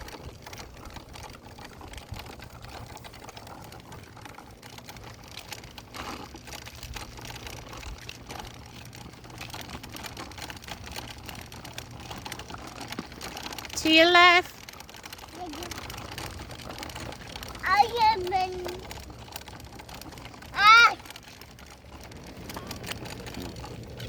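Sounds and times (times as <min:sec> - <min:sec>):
footsteps on road: 0:00.0 - 0:24.0.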